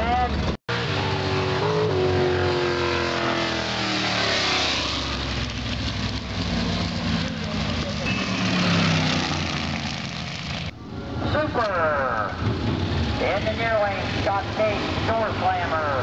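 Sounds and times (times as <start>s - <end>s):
race engines: 0.0s - 16.0s.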